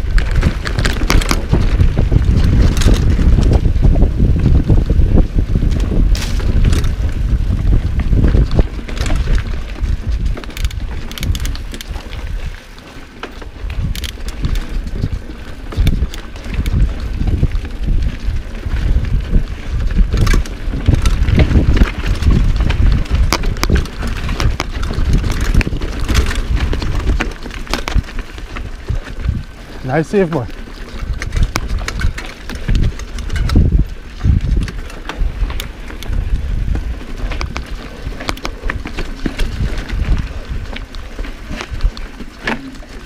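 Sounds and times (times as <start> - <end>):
bike clacking and rattling: 0.0 - 43.0
wind buffeting microphone: 0.0 - 43.0.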